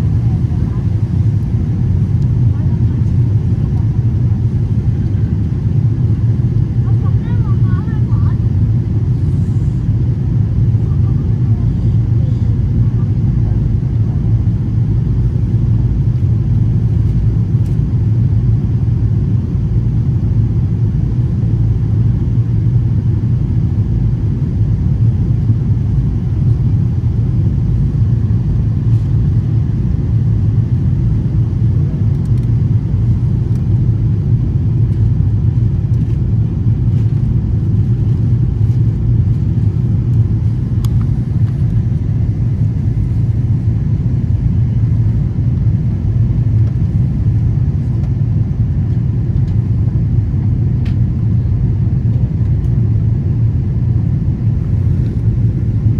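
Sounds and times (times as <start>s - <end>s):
airliner cabin rumble: 0.0s - 55.9s.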